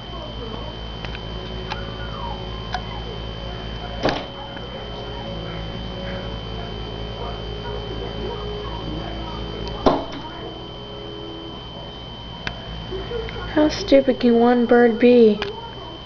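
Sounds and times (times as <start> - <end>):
low hum: 0.0 - 16.0
steady high-pitched tone: 0.0 - 16.0.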